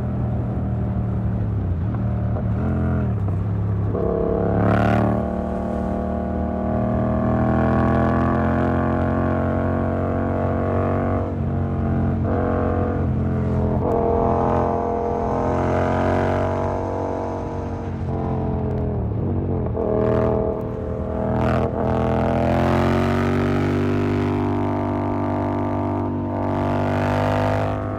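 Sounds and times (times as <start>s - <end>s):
motorcycle engine cruising: 0.0s - 27.9s.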